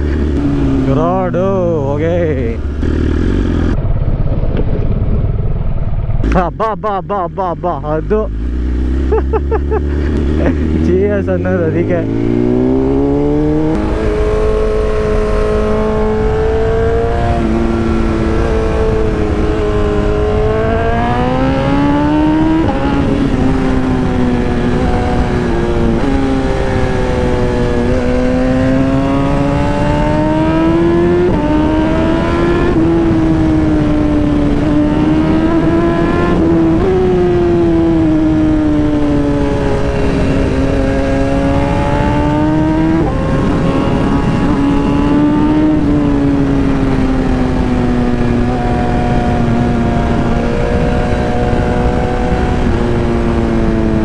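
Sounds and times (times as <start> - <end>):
wind rush: 0.0 - 6.4, 9.9 - 54.0
motorcycle engine revving: 0.0 - 54.0.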